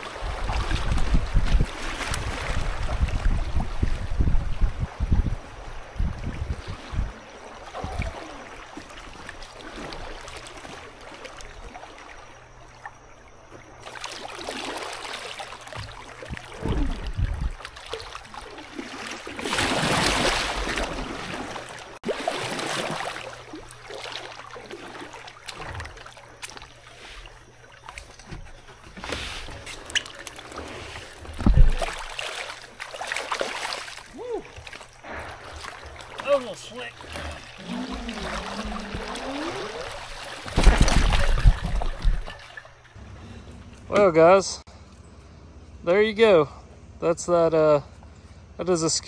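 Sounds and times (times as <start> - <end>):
rush of water: 0.0 - 43.1
water trickling and splashing: 0.0 - 44.6.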